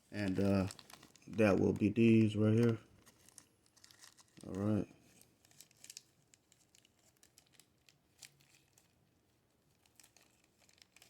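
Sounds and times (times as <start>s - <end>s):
small parts clicking and crinkling: 0.0s - 11.0s.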